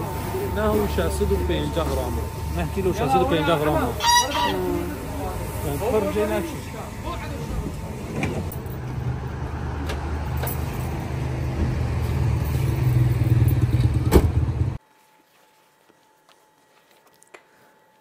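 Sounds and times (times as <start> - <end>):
vehicle rumble: 0.0 - 14.8.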